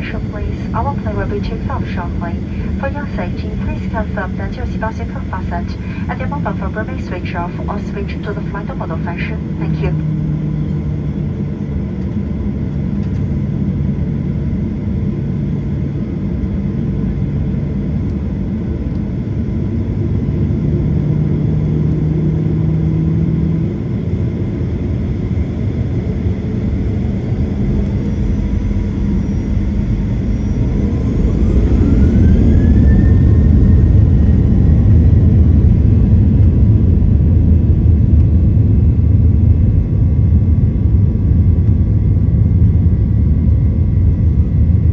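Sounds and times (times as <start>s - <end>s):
jet engine rising whine: 0.0s - 44.9s
jet engines humming: 0.0s - 44.9s.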